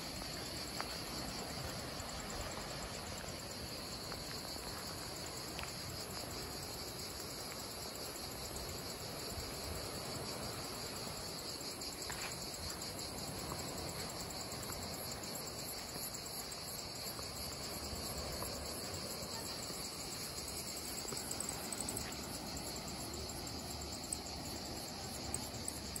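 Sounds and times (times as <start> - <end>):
insect chorus buzzing: 0.0 - 26.0.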